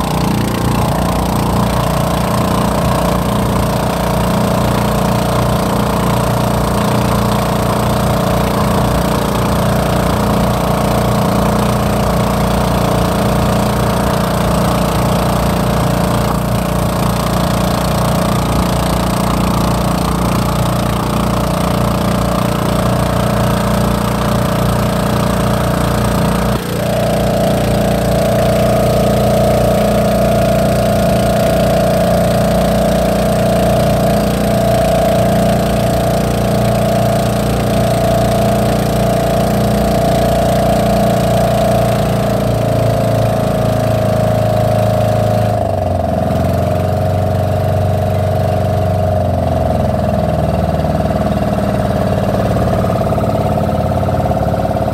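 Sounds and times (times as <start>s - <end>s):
water and wind hiss: 0.0s - 47.9s
boat engine running: 0.0s - 54.9s.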